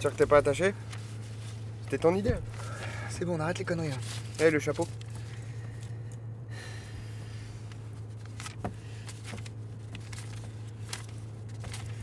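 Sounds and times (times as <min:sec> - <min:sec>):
banknotes rustling and clicking: 0:00.0 - 0:06.1, 0:07.4 - 0:12.0
car cabin hum: 0:00.0 - 0:12.0.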